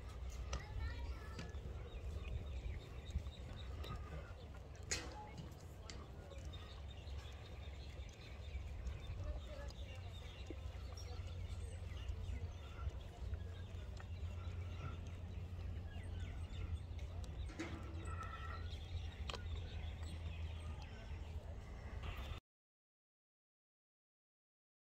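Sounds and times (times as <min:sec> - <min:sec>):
wind rumble on microphone: 0:00.0 - 0:22.4.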